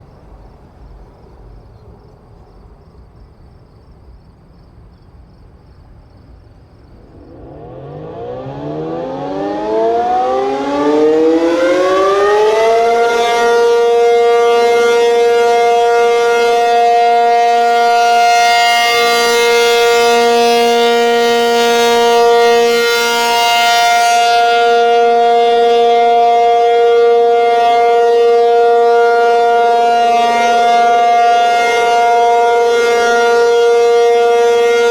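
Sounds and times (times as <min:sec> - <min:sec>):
storm warning siren: 0:06.5 - 0:34.9.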